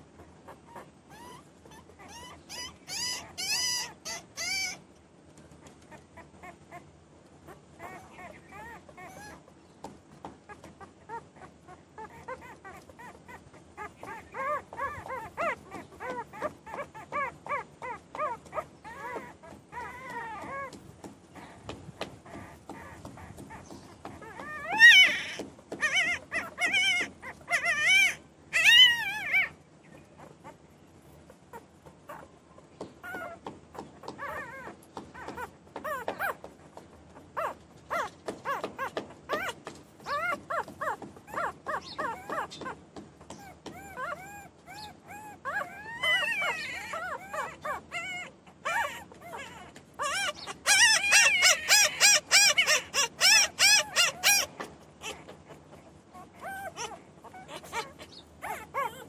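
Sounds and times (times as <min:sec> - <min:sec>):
puppies crying and whining: 0:00.0 - 0:59.0.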